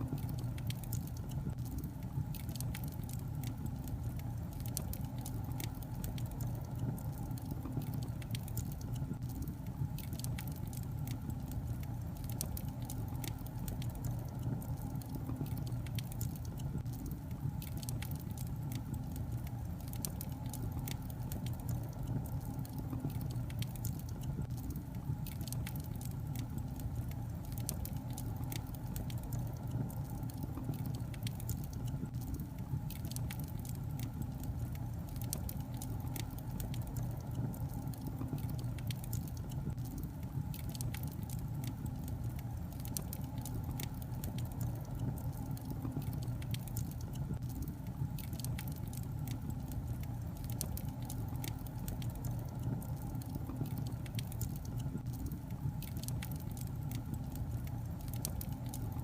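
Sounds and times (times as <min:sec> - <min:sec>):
logs crackling in a fireplace: 0:00.0 - 0:59.0.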